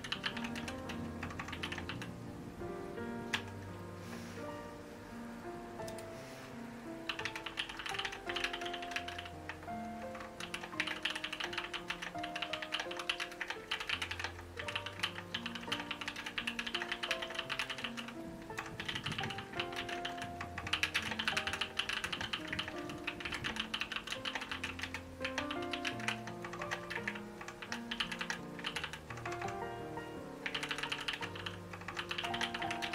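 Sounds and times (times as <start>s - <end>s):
mechanical keyboard typing: 0.0s - 2.1s, 3.3s - 3.7s, 7.1s - 29.8s, 30.4s - 32.9s
soft background music: 0.0s - 32.9s.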